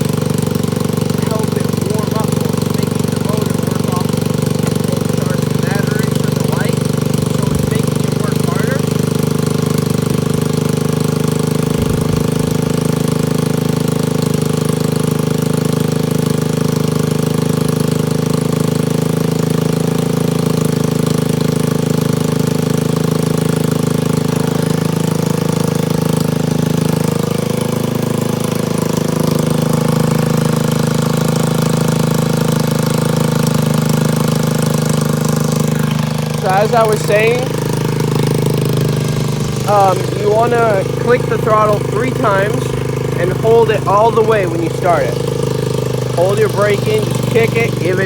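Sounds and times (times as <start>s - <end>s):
scooter engine idling: 0.0s - 48.0s.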